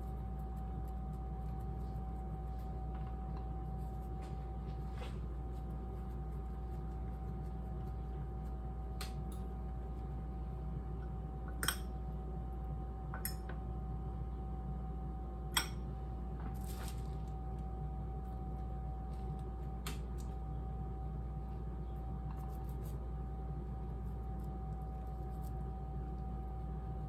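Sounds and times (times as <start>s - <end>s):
low kitchen hum: 0.0s - 27.0s.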